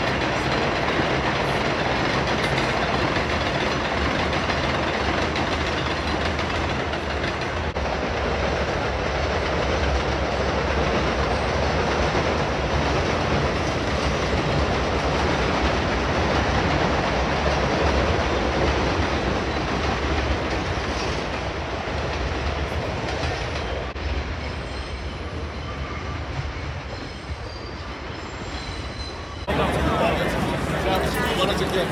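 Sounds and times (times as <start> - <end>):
train wheels on rails: 0.0 - 31.9.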